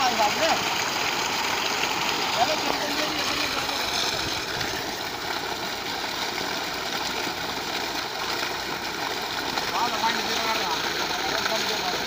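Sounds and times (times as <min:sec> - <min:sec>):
water gushing from pipe: 0:00.0 - 0:12.0
water splashing onto ground: 0:00.0 - 0:12.0.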